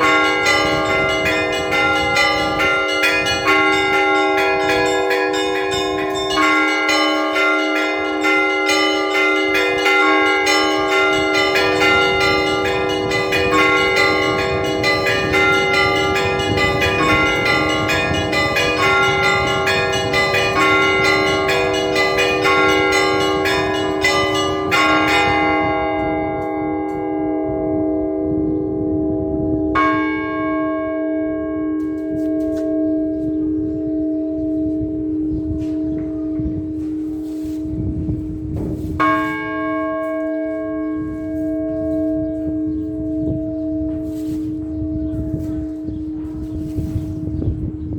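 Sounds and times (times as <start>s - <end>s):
large church bells humming: 0.0s - 47.9s
small church bells ringing: 0.0s - 47.9s.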